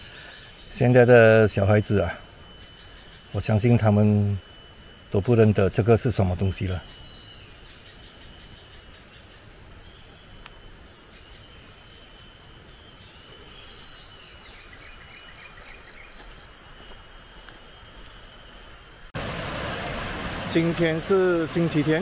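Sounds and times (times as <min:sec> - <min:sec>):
background hiss: 0:00.0 - 0:22.0
insects chirping: 0:00.0 - 0:22.0.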